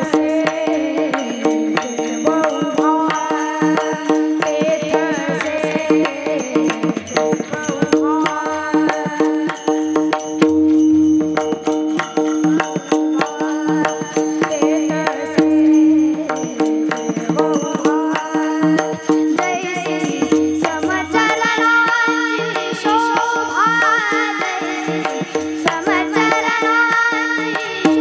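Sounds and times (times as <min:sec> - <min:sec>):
small hand cymbals striking: 0:00.0 - 0:28.0
tabla: 0:00.0 - 0:28.0.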